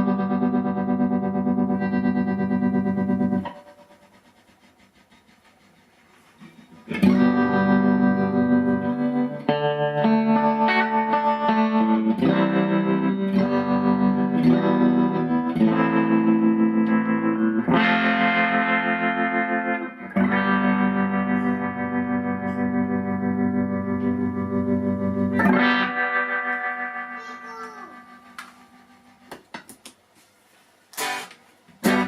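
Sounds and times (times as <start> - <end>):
electric guitar chords strummed: 0.0 - 3.9, 6.9 - 29.3, 31.0 - 32.0.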